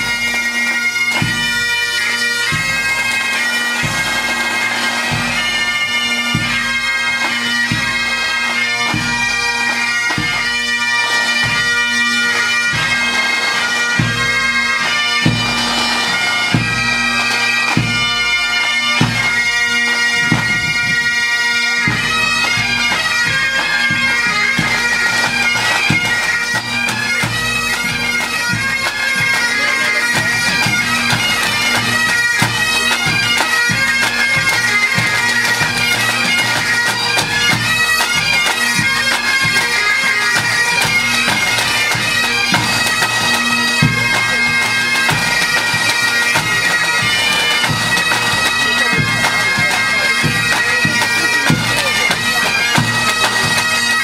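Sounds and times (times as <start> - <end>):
bagpipes playing over drone: 0.0 - 54.0.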